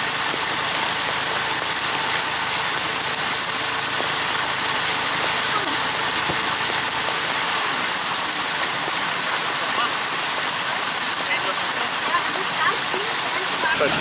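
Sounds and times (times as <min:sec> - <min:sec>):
water rushing in stream: 0:00.0 - 0:14.0.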